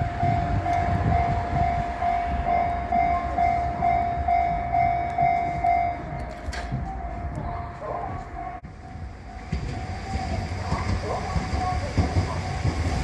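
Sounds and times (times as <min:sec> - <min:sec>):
level-crossing alarm ringing: 0:00.0 - 0:13.0
low rumble of rail traffic: 0:00.0 - 0:13.0.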